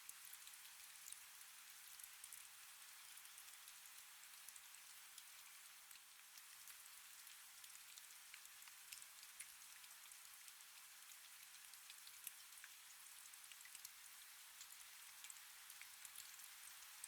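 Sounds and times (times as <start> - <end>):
soft steady rain: 0.0 - 17.0.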